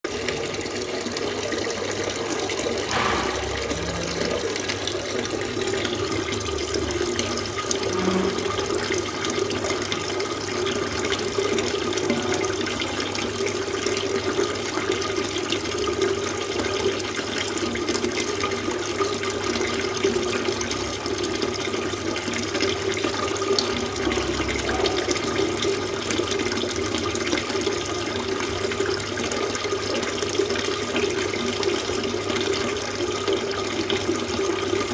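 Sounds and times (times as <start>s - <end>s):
water fountain splashing: 0.0s - 34.9s.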